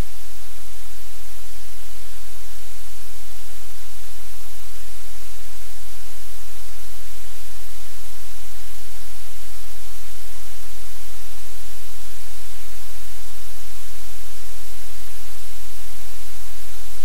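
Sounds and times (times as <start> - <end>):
loud steady static hiss: 0.0 - 17.0.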